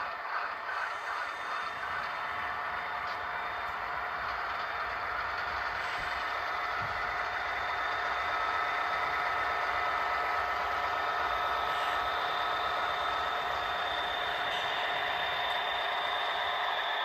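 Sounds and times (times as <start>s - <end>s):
model train running on track: 0.0s - 17.0s.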